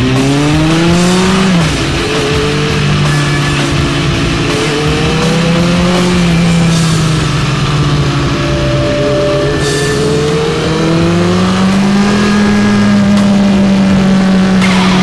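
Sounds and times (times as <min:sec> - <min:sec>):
motorcycle engine under way: 0:00.0 - 0:15.0.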